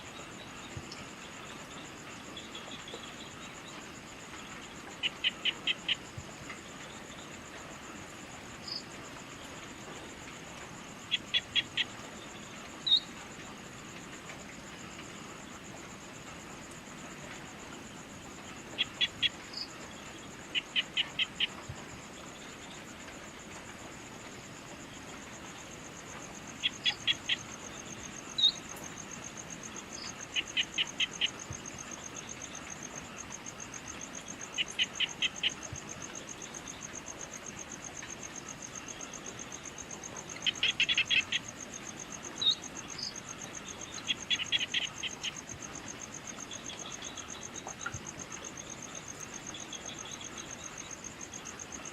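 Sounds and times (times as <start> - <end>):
cricket trill: 0.0 - 51.9
sharp insect chirps: 8.6 - 51.9.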